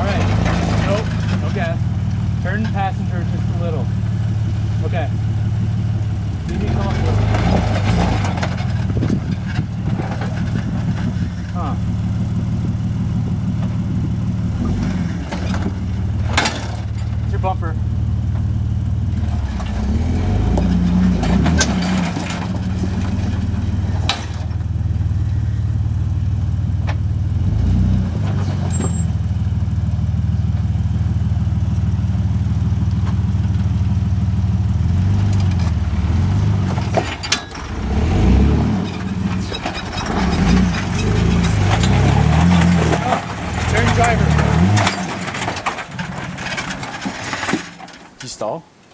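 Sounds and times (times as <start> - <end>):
off-road vehicle engine under load: 0.0 - 48.9.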